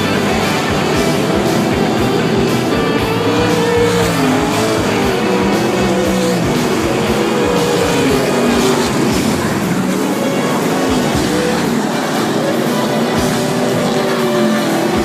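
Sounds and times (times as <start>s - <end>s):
race car engines: 0.0s - 15.0s
rock song with drums and guitar: 0.0s - 15.0s.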